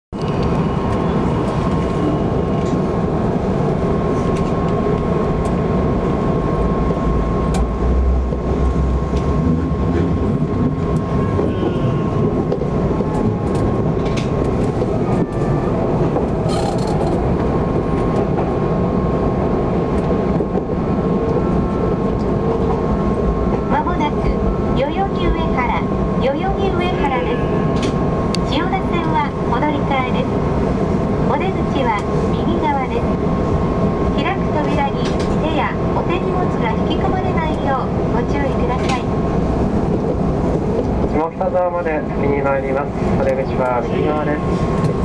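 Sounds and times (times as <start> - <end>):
wheels rumbling on rails: 0.1 - 45.0.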